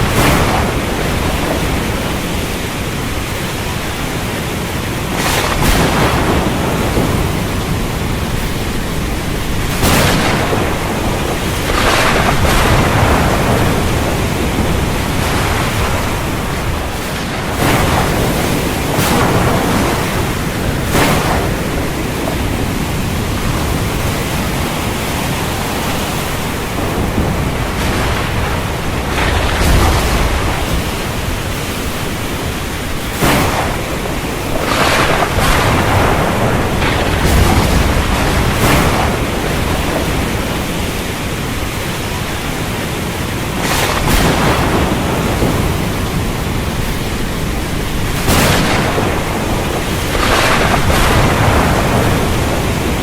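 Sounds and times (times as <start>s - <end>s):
ocean surf: 0.0s - 53.0s
stormy wind: 0.0s - 53.0s.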